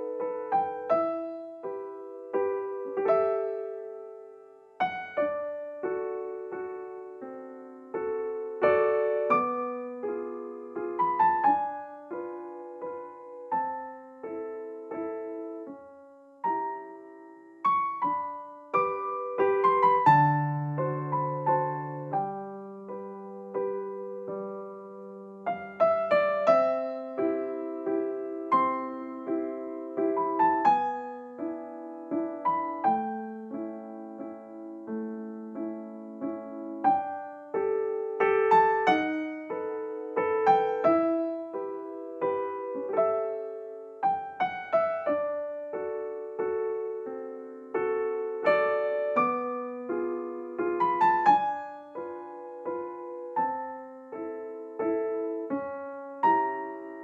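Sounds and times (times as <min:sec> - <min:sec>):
electric piano melody: 0:00.0 - 0:57.0.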